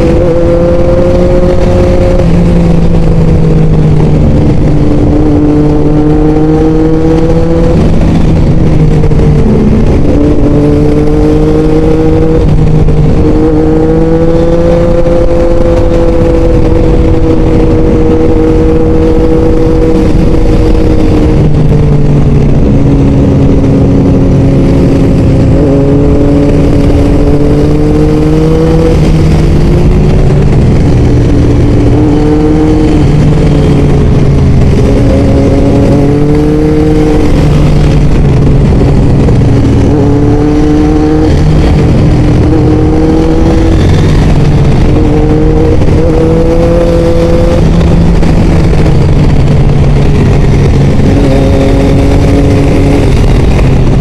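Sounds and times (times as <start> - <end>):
motorcycle engine: 0.0 - 54.0
wind rushing on microphone: 0.0 - 54.0.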